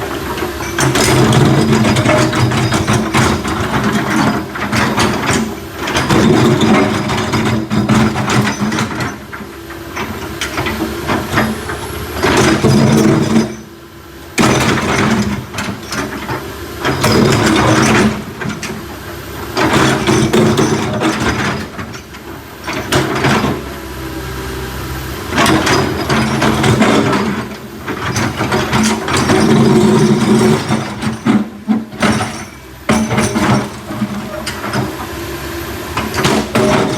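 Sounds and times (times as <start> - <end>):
machine clanking and rattling: 0.2 - 13.7, 14.4 - 18.8, 19.6 - 23.7, 25.3 - 35.1, 35.9 - 36.9.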